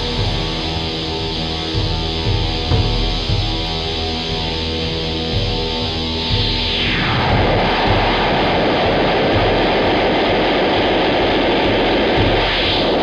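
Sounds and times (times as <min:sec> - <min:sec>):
pulsing low bass: 0:00.0 - 0:13.0.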